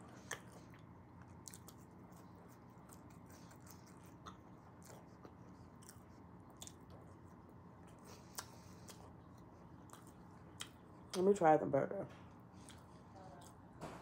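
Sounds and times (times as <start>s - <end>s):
chewing fries: 0.0s - 11.4s, 12.2s - 13.8s.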